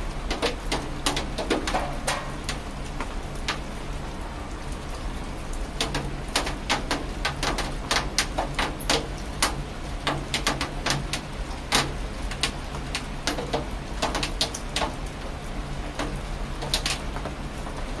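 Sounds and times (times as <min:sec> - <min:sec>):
large raindrops tapping hard surface: 0:00.0 - 0:18.0
low rain rumble: 0:00.0 - 0:18.0.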